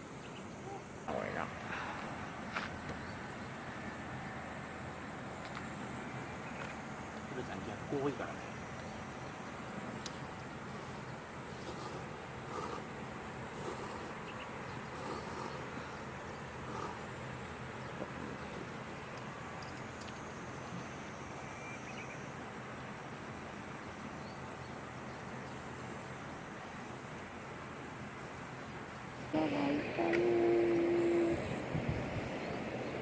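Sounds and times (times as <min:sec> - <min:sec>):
faint insect sounds: 0:00.0 - 0:33.0.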